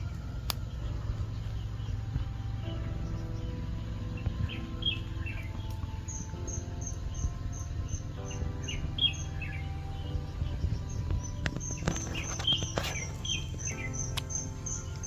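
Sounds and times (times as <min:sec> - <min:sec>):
birds chirping and calling: 0:00.0 - 0:15.0
soft background music: 0:00.0 - 0:15.0.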